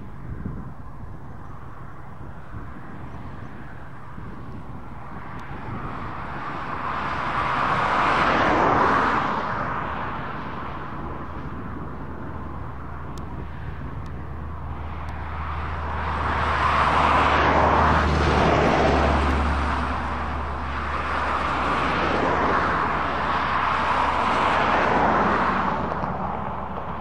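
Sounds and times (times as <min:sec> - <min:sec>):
tractor engine hum: 0:00.0 - 0:27.0.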